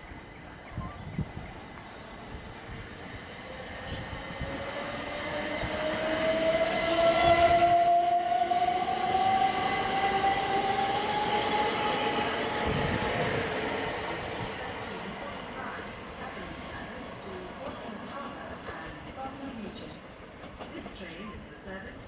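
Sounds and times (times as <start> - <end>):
electric train whine: 0.0 - 21.8.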